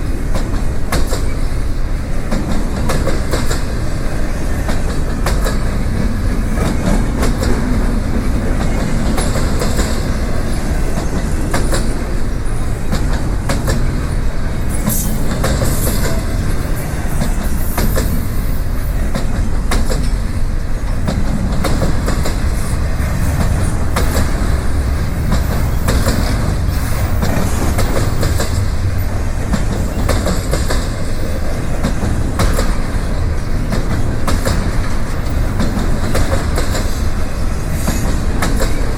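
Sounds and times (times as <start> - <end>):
freight train rumbling: 0.0 - 38.9
wheels clicking over rail joints: 0.0 - 38.9.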